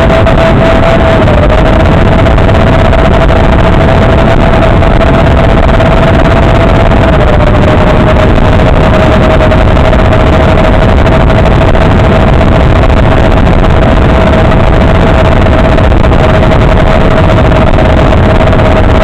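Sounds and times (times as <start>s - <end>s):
receiver static hiss: 0.0s - 19.0s
steady whine: 0.0s - 19.0s.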